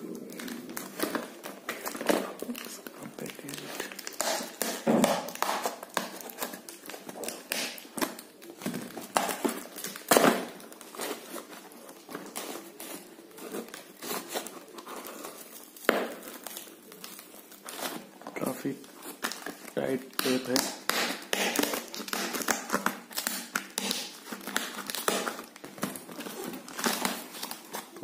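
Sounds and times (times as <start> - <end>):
plastic bag crinkling and tearing: 0.0 - 28.0.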